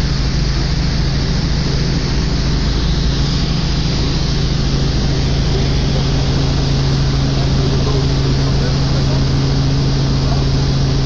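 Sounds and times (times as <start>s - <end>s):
helicopter engine and rotor noise: 0.0s - 11.0s.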